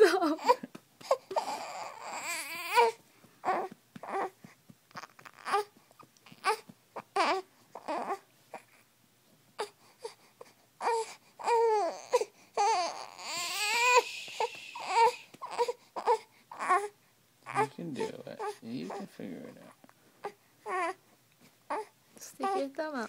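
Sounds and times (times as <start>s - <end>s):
infant crying: 0.0s - 8.8s, 9.6s - 21.0s, 21.7s - 22.7s.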